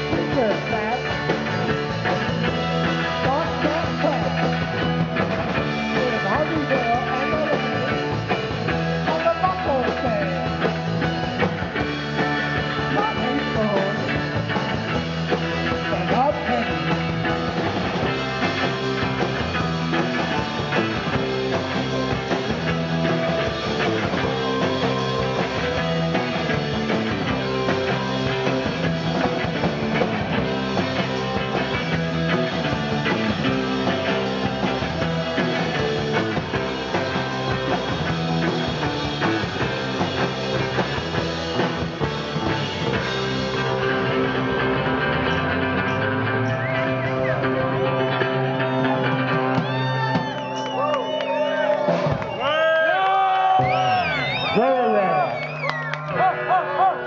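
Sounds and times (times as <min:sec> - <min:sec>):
guitar notes bending: 0:00.0 - 0:50.5
rock band playing live: 0:00.0 - 0:57.0.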